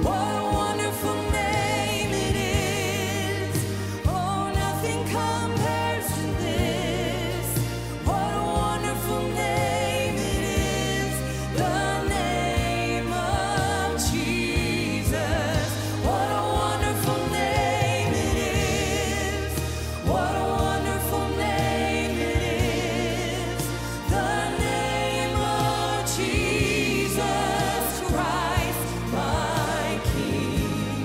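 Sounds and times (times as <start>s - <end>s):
backing singers: 0.0s - 31.0s
woman singing worship song: 0.0s - 31.0s.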